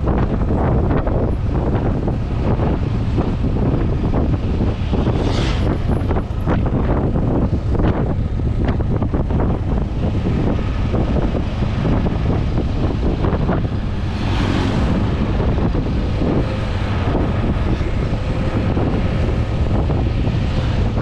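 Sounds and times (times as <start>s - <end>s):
road and tyre rumble: 0.0s - 21.0s
wind buffeting microphone: 0.0s - 21.0s.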